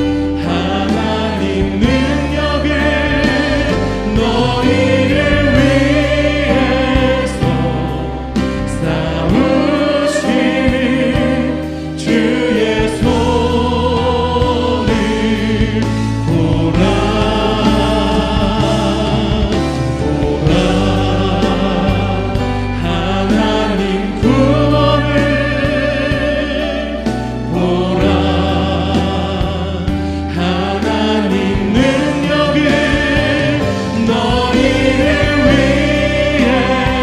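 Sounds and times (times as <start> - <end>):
live band with drums and keyboards: 0.0 - 37.0
person singing worship song: 0.0 - 37.0.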